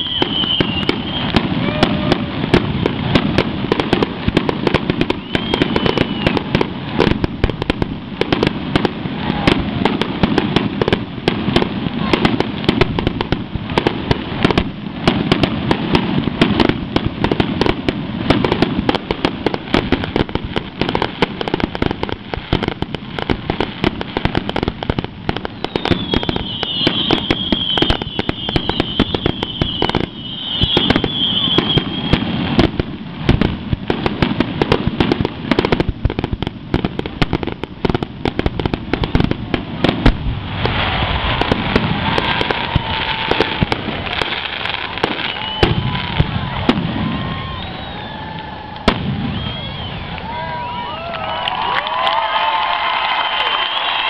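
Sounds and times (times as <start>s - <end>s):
fireworks bangs and crackles: 0.0s - 54.0s
shrill whistling fireworks: 0.0s - 54.0s.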